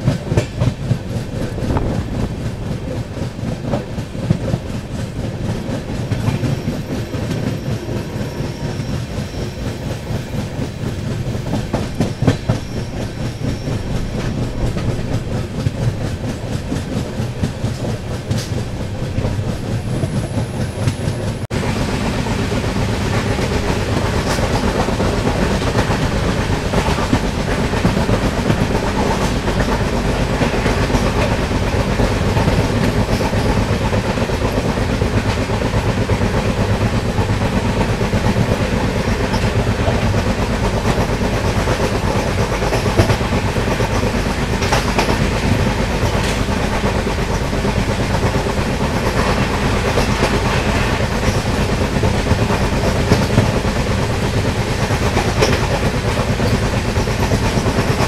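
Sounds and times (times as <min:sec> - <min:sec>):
rail clicks: 0:00.0 - 0:58.0
train wheels rumbling on rails: 0:00.0 - 0:58.0.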